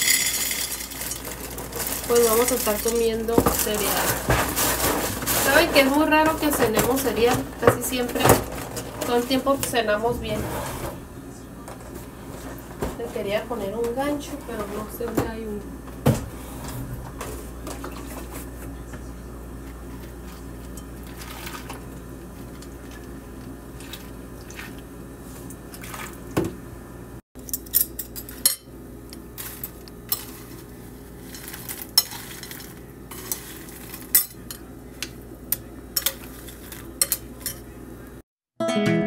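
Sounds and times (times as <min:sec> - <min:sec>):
steady low hum: 0:00.1 - 0:38.2.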